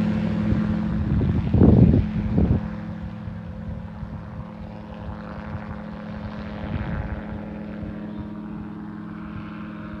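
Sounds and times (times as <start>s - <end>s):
gyrocopter engine and propeller: 0.0s - 10.0s
wind rumbling on microphone: 0.0s - 10.0s.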